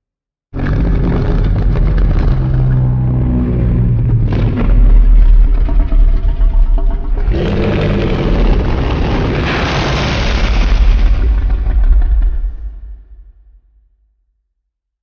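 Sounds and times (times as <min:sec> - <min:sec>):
monster deep rumble: 0:00.5 - 0:13.5
hissing roar: 0:00.6 - 0:12.6.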